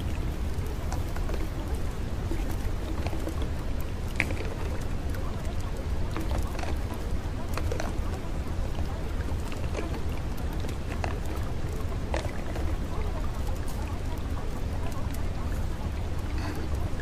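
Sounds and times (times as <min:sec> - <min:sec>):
steady hissing noise: 0:00.0 - 0:17.0.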